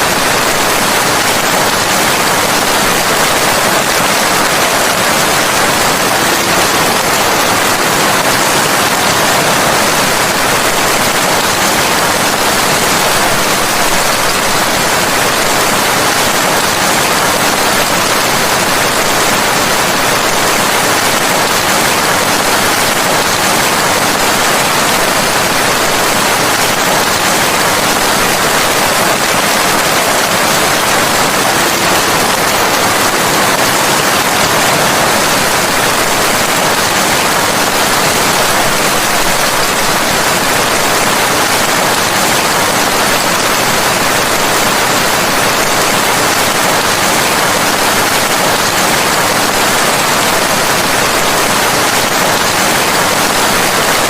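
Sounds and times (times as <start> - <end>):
loud rain falling: 0.0 - 54.0.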